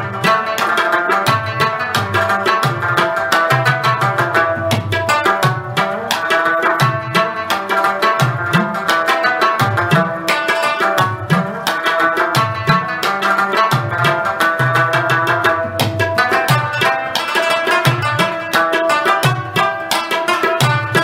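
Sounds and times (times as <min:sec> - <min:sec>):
percussion music with deep drum: 0:00.0 - 0:21.0.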